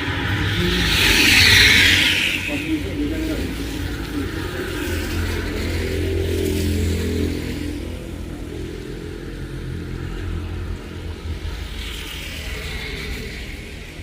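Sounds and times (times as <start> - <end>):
heavy rain hissing: 0.0 - 14.0
vehicle engine passing: 0.0 - 14.0.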